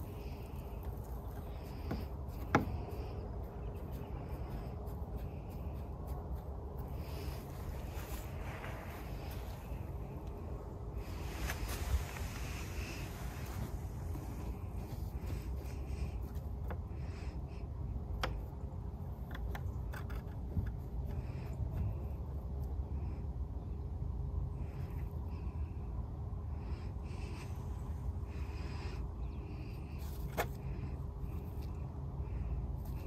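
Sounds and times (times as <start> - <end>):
cat scratching at dirt: 0.0 - 23.0, 29.5 - 33.0
low outdoor rumble: 0.0 - 33.0.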